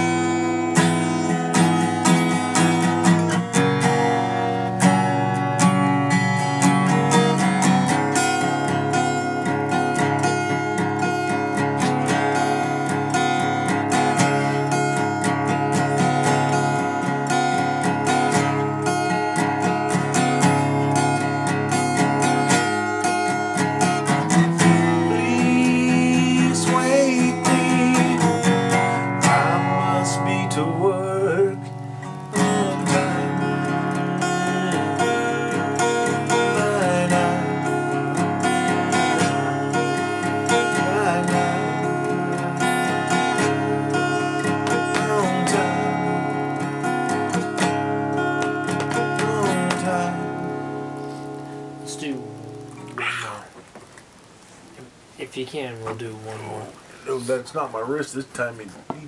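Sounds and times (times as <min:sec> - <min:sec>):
acoustic guitar strummed and picked: 0:00.0 - 0:59.0.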